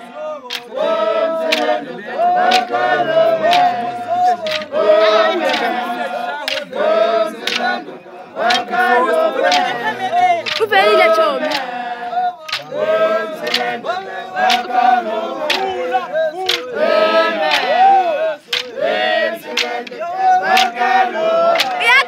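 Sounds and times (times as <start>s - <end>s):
crowd singing in chorus: 0.0s - 22.0s
sharp beats: 0.5s - 22.0s.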